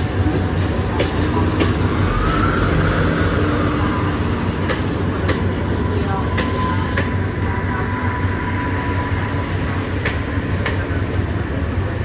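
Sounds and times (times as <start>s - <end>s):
diesel train engine humming: 0.0s - 12.0s.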